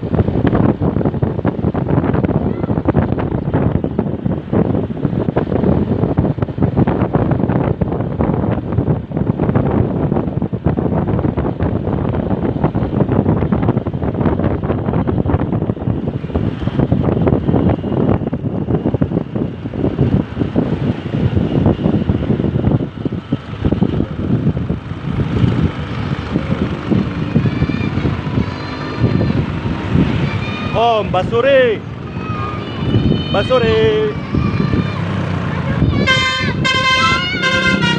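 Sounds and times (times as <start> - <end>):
road noise: 0.0 - 37.9
vehicle engine: 0.0 - 37.9
wind buffeting microphone: 0.0 - 37.9.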